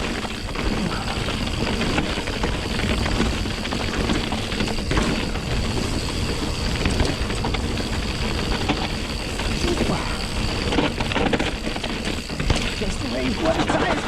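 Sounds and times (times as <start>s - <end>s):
bike tyres rolling over rock: 0.0s - 14.0s
chain and frame rattling: 0.0s - 14.0s.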